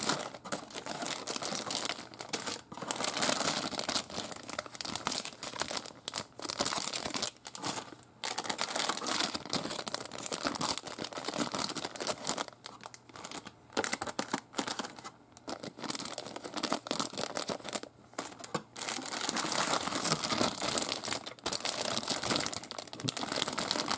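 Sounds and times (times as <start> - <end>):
plastic bags crinkling: 0.0 - 23.9.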